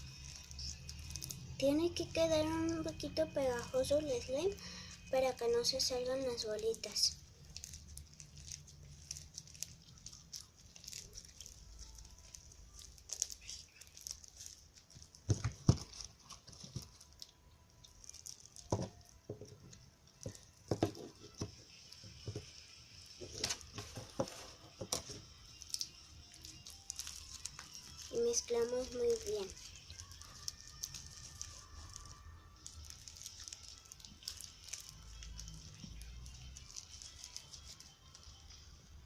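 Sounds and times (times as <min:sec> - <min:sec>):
hands kneading bead-filled slime: 0:05.1 - 0:21.4, 0:23.3 - 0:38.6.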